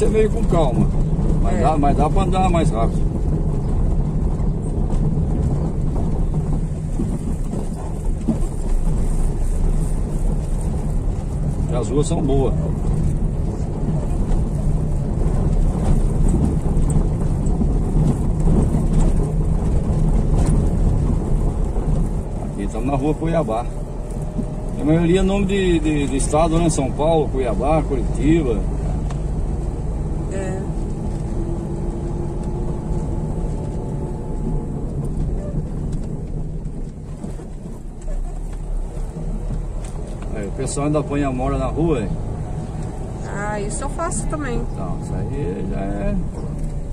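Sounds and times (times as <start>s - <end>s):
vehicle driving over cobblestones: 0.0s - 46.9s.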